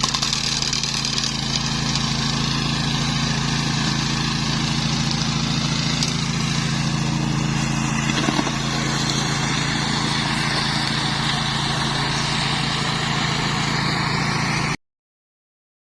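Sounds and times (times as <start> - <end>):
mower engine running: 0.0 - 14.8.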